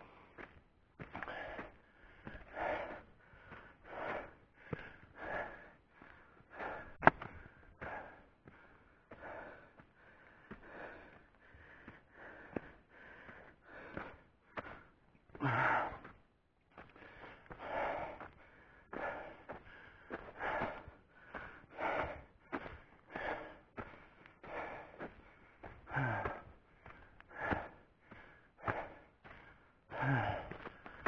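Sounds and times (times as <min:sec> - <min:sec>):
man breathing hard: 0:00.0 - 0:31.0.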